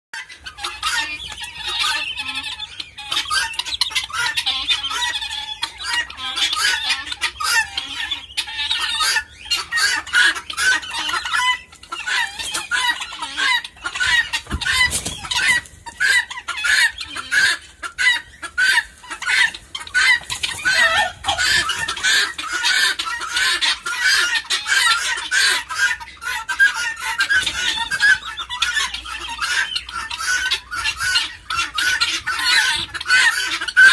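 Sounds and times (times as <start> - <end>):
guineafowl flock calling: 0.2 - 33.9.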